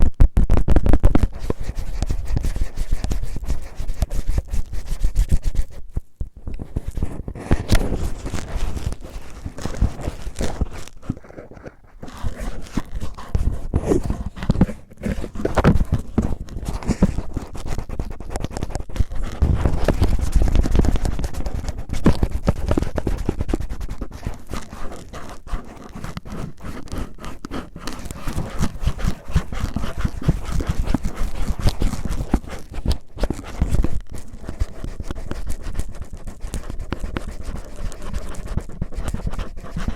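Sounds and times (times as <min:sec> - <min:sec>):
cellophane crinkling on microphone: 0:00.0 - 0:39.9.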